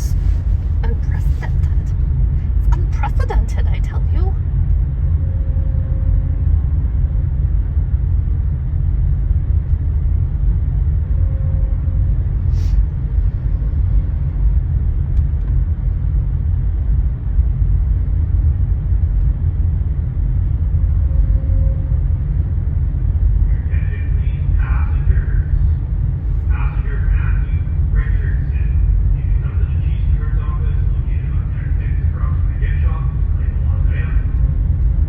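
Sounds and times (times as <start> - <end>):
ship engines rumbling: 0.0 - 35.0.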